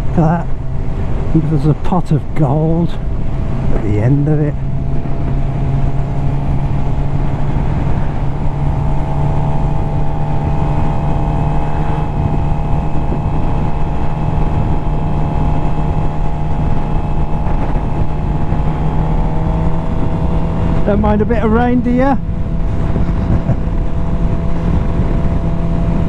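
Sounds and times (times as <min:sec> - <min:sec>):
motorcycle engine cruising: 0:00.0 - 0:26.0
wind rumble on microphone: 0:00.0 - 0:26.0.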